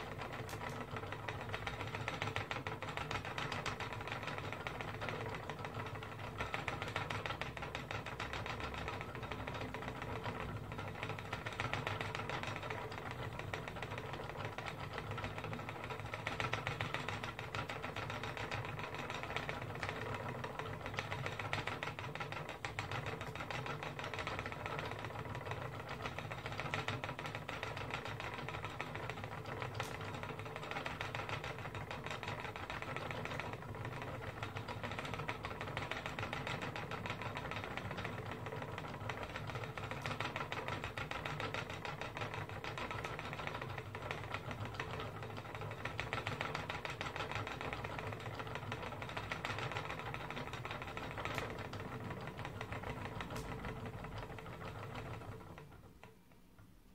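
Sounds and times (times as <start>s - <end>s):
spinning wheel rattling: 0.0s - 56.2s.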